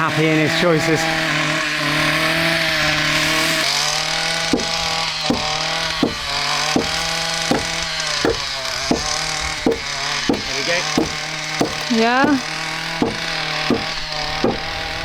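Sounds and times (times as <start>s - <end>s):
chainsaw cutting through wood: 0.0s - 15.0s.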